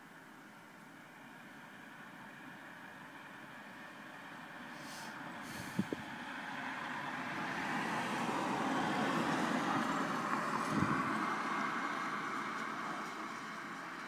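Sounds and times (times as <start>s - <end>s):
road vehicle passing by: 2.4s - 14.0s.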